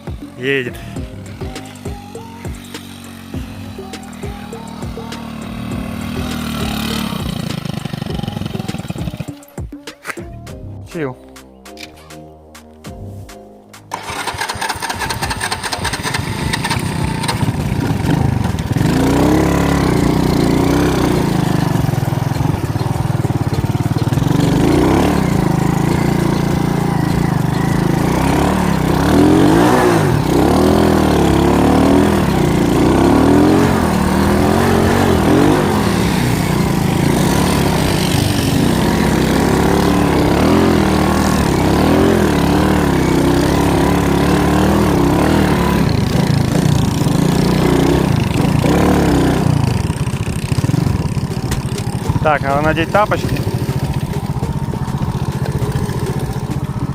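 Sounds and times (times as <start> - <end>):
moped engine revving: 0.0 - 13.2, 13.8 - 56.9.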